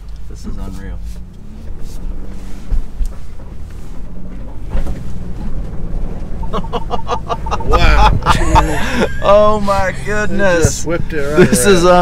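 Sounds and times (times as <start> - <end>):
engine low rumble from inside: 0.0 - 12.0.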